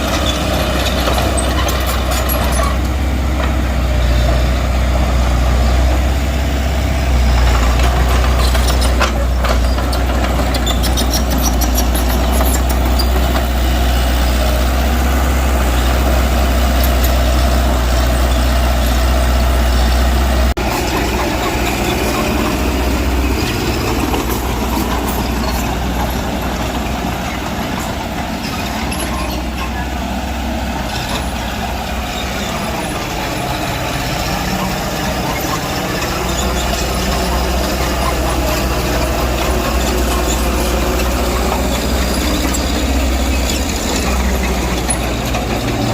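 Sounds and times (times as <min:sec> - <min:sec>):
heavy diesel engines rumbling: 0:00.0 - 0:45.9.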